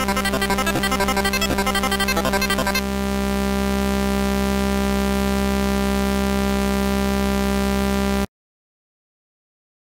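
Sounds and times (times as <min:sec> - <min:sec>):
buzzing tone rich in overtones: 0:00.0 - 0:08.2.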